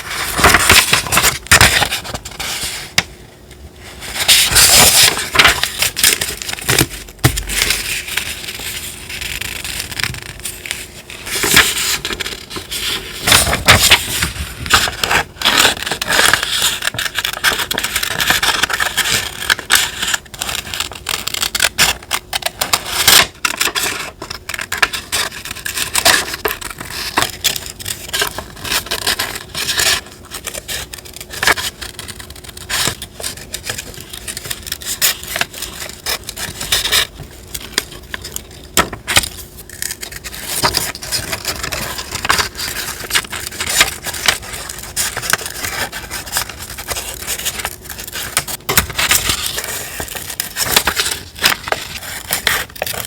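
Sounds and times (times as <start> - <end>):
paper rustling and crinkling: 0.0 - 53.0.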